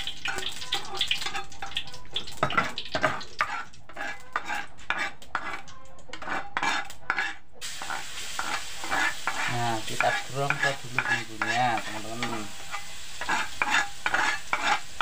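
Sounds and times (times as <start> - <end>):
metal ladle scraping and clinking: 0.0 - 15.0
paste sizzling in wok: 0.0 - 15.0.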